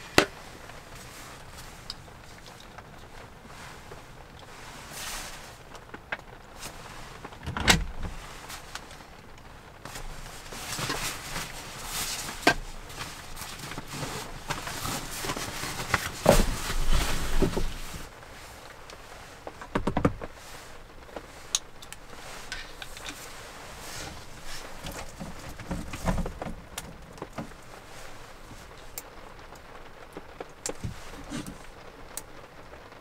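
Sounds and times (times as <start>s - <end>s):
fabric rustling: 0.0s - 32.9s.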